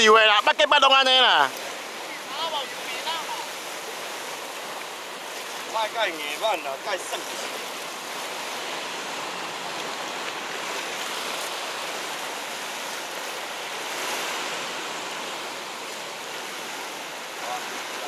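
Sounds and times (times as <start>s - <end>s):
sea surf rushing: 0.0s - 18.0s.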